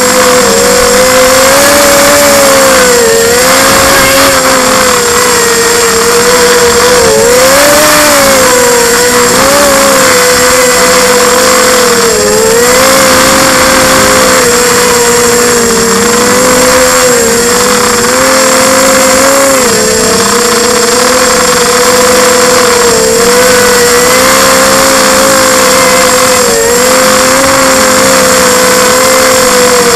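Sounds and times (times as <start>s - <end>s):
drone propellers whining: 0.0s - 29.9s.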